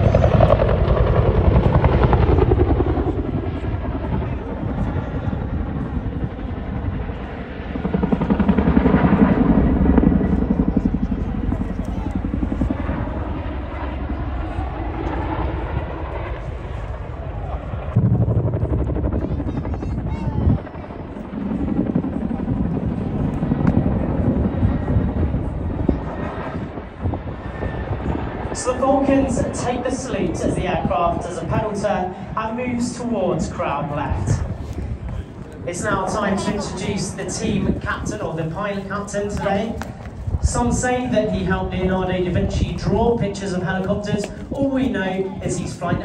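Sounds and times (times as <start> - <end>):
helicopter rotor blades beating: 0.0 - 46.0.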